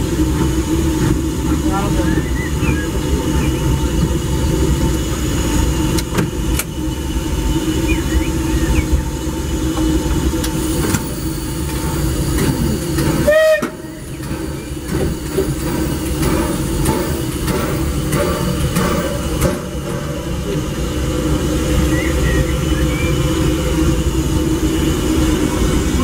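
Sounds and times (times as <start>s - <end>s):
steam train rumbling: 0.0s - 26.0s
train clanks: 0.0s - 26.0s.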